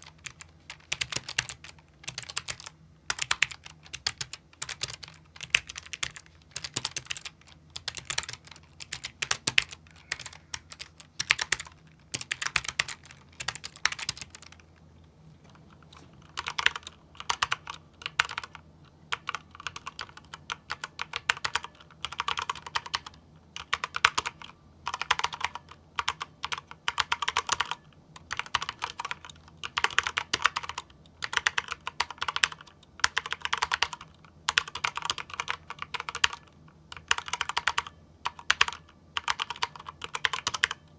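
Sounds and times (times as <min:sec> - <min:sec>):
quiet keyboard typing: 0:00.0 - 0:40.9.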